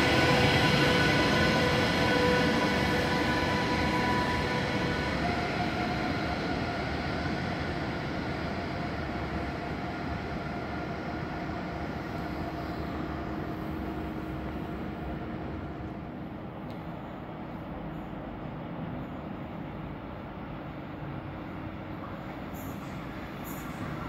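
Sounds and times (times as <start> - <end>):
electric locomotive whine: 0.0 - 24.0
rail rumble: 0.0 - 24.0.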